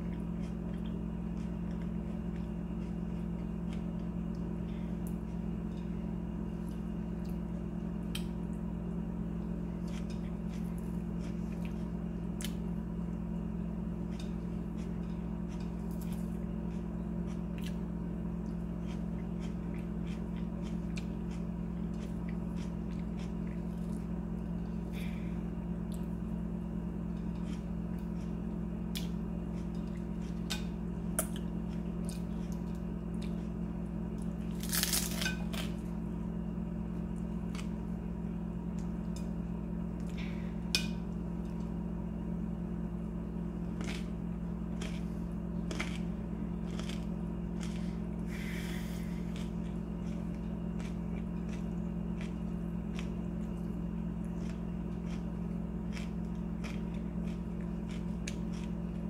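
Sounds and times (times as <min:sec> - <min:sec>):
person chewing: 0:00.0 - 0:36.0, 0:43.4 - 0:59.0
steady low hum: 0:00.0 - 0:59.0.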